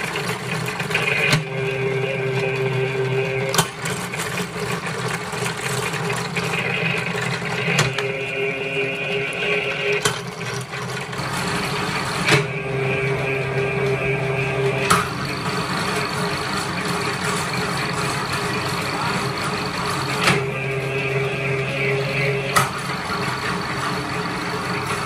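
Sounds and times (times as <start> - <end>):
cable stripping machine running: 0.0 - 25.0.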